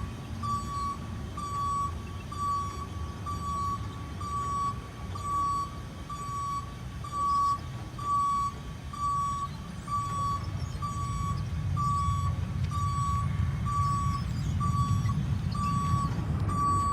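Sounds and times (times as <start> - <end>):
diesel engine running: 0.0 - 16.9
truck reversing alarm beeping: 0.0 - 16.9.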